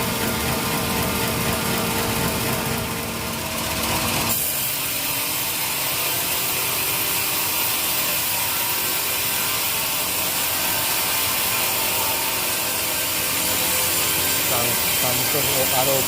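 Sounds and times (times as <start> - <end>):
saw cutting wood: 1.5 - 16.0.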